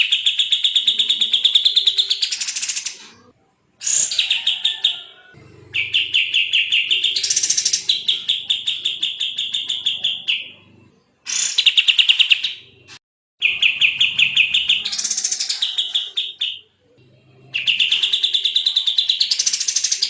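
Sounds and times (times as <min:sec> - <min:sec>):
songbird rapid chirps: 0:00.0 - 0:20.0.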